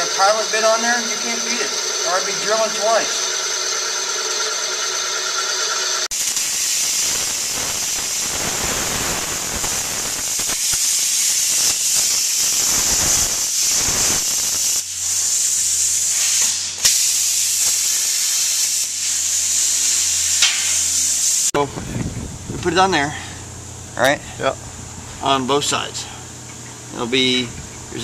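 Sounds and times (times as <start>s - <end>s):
loud steady hiss: 0.0s - 4.8s, 5.9s - 28.0s.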